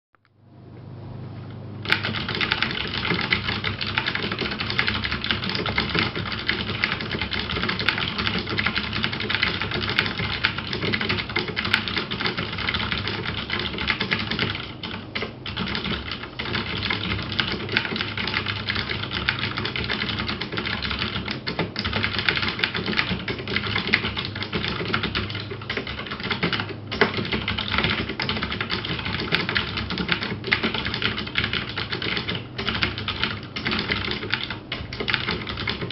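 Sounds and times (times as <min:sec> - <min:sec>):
mechanical keyboard typing: 0:01.8 - 0:35.9.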